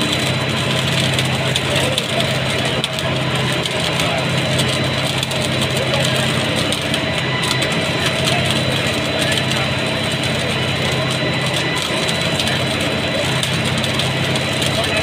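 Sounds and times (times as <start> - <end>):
machine engine hum: 0.0 - 15.0
sparks crackling: 0.0 - 15.0.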